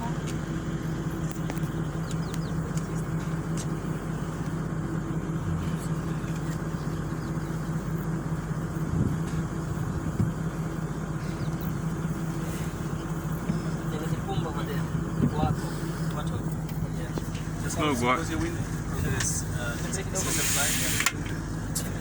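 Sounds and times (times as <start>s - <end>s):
road noise: 0.0s - 22.0s
vehicle engine humming: 0.0s - 22.0s.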